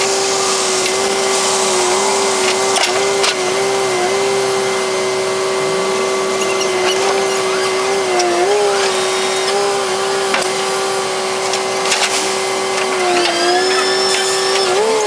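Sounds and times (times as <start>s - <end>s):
excavator engine and hydraulics whine: 0.0s - 15.0s.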